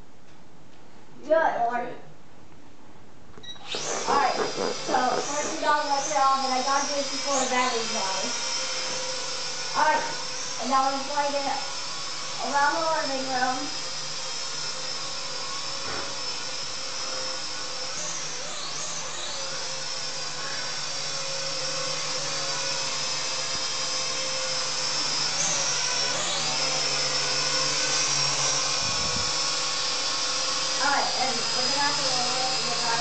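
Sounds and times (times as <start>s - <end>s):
drone propellers whining: 3.6s - 33.0s.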